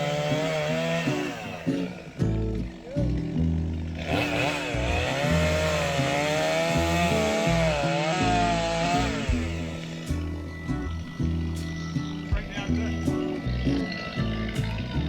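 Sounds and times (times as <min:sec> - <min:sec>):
background music: 0:00.0 - 0:15.0
chainsaw cutting wood: 0:00.0 - 0:15.0.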